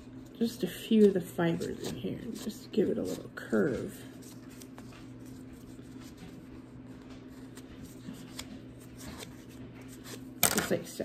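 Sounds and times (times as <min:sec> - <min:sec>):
low steady hum: 0:00.0 - 0:11.0
cardstock crinkling and ticking: 0:00.2 - 0:10.8.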